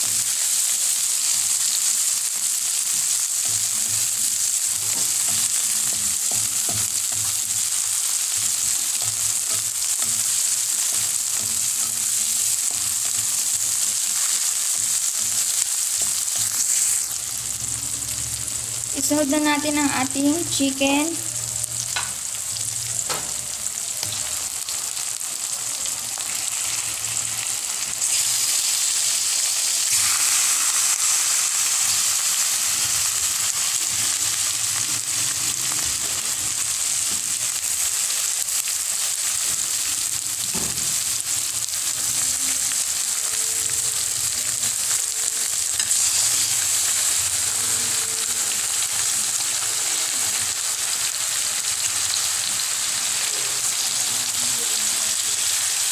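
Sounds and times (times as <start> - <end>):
chicken sizzling in hot oil: 0.0 - 55.9.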